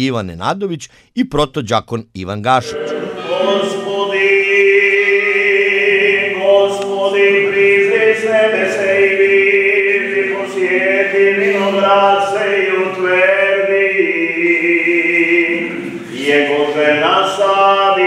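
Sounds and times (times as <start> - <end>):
men chanting: 2.6 - 18.0.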